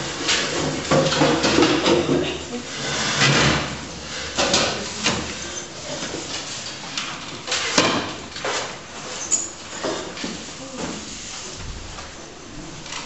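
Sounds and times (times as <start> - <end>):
chairs scraping against desks: 0.0 - 13.0.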